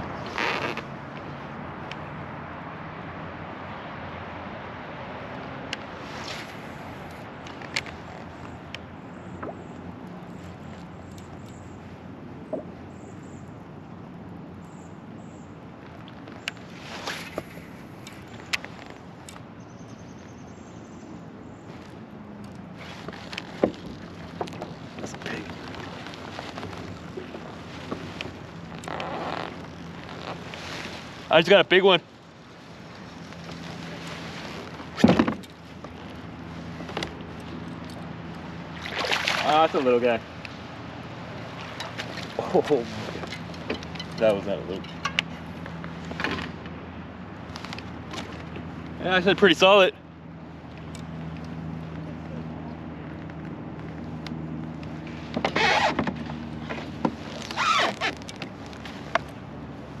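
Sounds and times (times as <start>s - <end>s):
motorboat engine humming: 0.0s - 60.0s.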